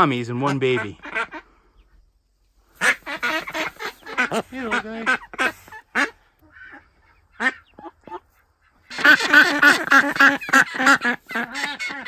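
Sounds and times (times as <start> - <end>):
ducks quacking: 0.0 - 2.0, 2.7 - 12.0.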